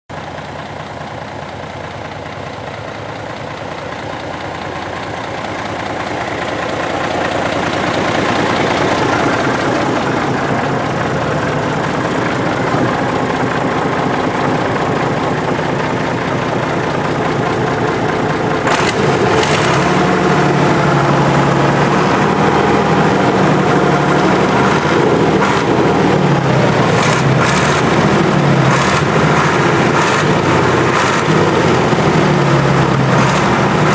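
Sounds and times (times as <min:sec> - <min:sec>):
tractor diesel engine revving: 0:00.1 - 0:33.9.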